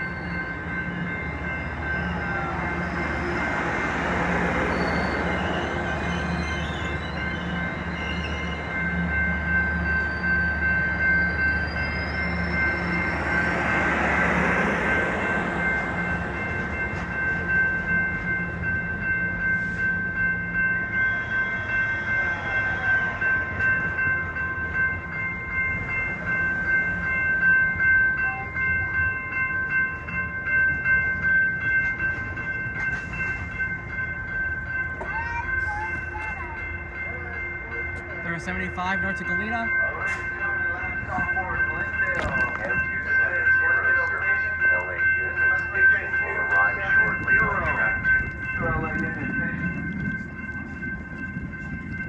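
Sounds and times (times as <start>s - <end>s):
train engine rumble: 0.0s - 52.0s.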